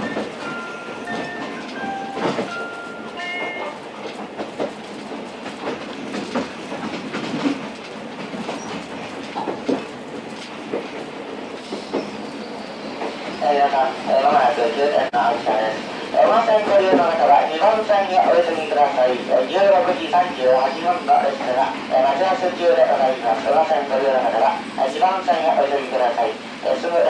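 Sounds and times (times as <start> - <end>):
rail joint clacks: 0.0 - 27.0
train coach rumble: 0.0 - 27.0.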